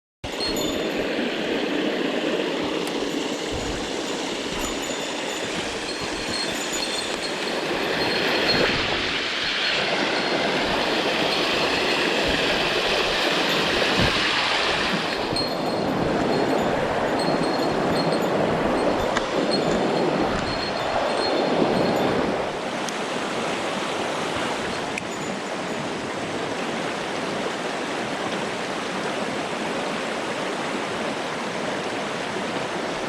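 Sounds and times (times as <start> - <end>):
stream water rushing: 0.2 - 33.0.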